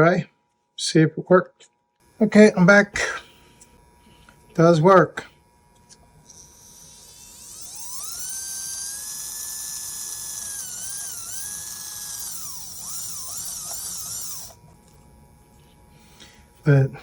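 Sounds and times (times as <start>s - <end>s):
small electric motor whining: 2.0s - 17.0s.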